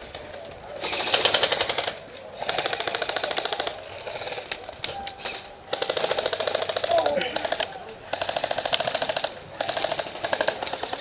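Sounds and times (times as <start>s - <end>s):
airsoft rifles firing bursts: 0.1s - 11.0s.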